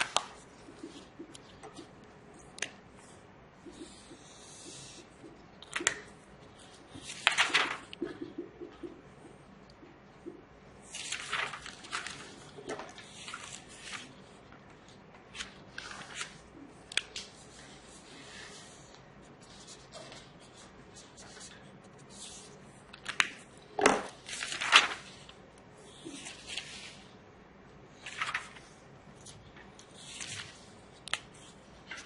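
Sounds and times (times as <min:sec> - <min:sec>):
pages rustling: 0:00.0 - 0:04.2, 0:05.7 - 0:08.1, 0:10.8 - 0:27.2, 0:27.9 - 0:32.0.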